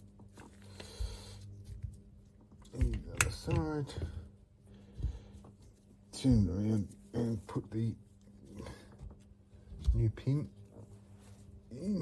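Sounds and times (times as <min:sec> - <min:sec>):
faint handling noises: 0:00.0 - 0:12.0.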